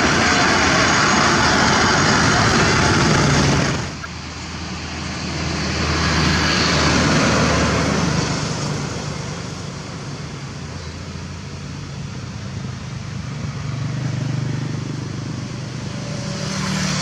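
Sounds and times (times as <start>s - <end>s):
diesel trucks passing: 0.0s - 17.0s.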